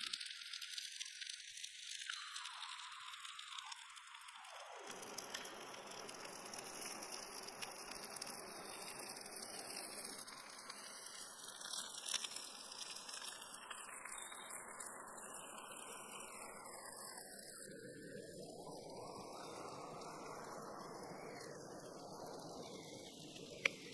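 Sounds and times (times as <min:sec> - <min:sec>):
food sizzling on hot stone: 0:00.0 - 0:23.9
small crackles: 0:00.0 - 0:23.9.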